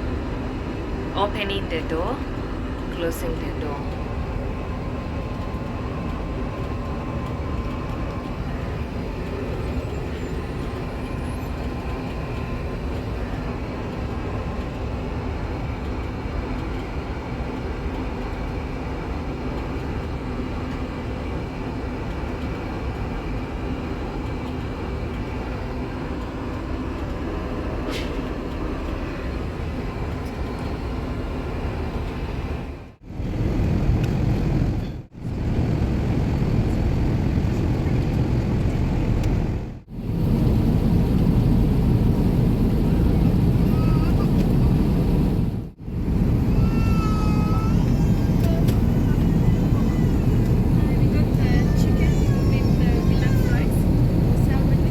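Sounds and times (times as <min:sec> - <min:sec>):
airliner cabin noise rushing: 0:00.0 - 0:54.9.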